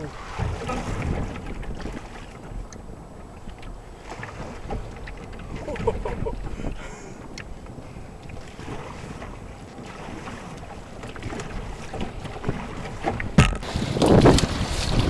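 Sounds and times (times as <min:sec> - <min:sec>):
waves splashing against canoe: 0:00.0 - 0:15.0
wind buffeting microphone: 0:00.0 - 0:15.0.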